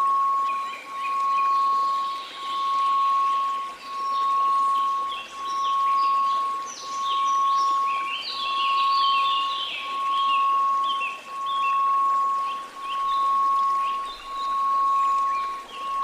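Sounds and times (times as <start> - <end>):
faint white noise hiss: 0.0 - 16.0
pulsing sine tone: 0.0 - 16.0.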